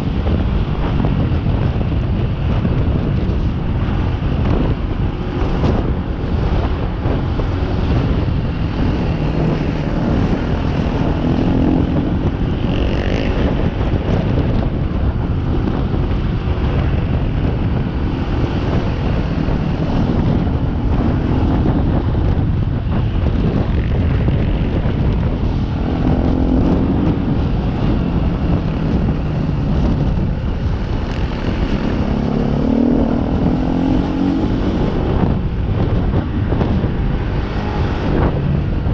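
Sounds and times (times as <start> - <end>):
wind buffeting microphone: 0.0 - 38.9
motorcycle engine revving: 3.1 - 38.9.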